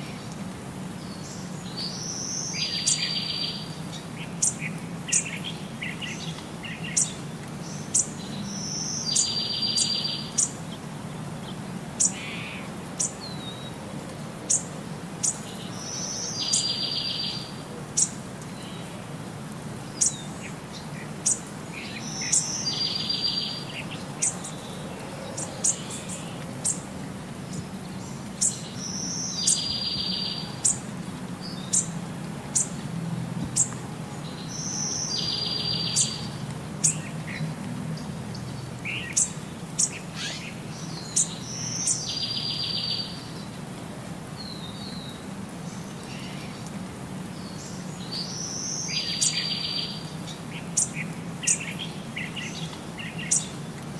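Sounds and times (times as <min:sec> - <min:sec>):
birds chirping: 0:01.0 - 0:13.8, 0:14.4 - 0:19.0, 0:19.7 - 0:43.6, 0:44.4 - 0:53.9.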